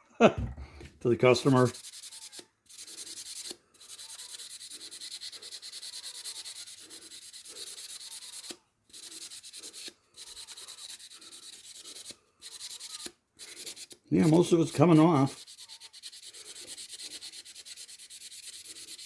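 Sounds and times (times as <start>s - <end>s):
scrubbing on metal blade: 1.2s - 19.0s.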